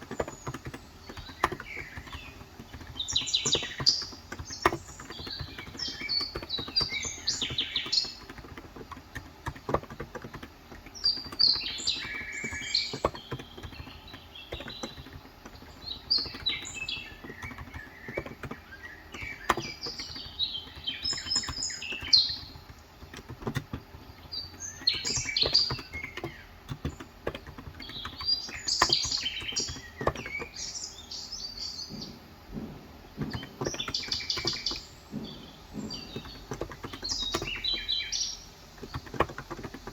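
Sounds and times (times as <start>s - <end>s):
keyboard typing clicks: 0.0s - 30.8s, 31.8s - 39.9s
birds chirping: 0.0s - 39.9s.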